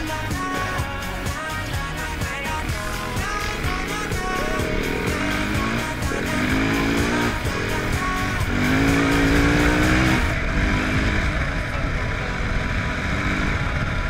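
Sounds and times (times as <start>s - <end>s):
dirt bike engine accelerating: 0.0s - 14.0s.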